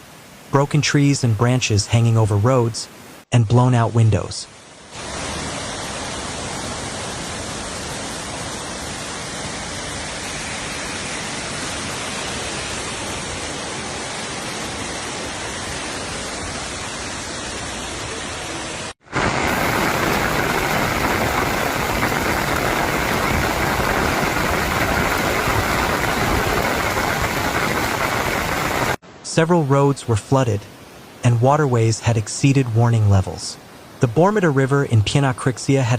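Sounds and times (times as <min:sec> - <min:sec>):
rushing water: 0:00.0 - 0:35.9
loud rushing water: 0:04.4 - 0:34.4.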